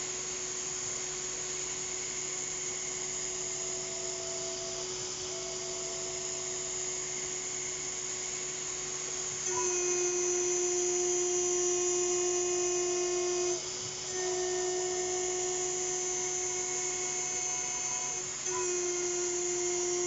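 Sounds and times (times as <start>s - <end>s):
cutter milling metal: 1.0s - 20.0s
router spindle whining: 2.0s - 20.0s.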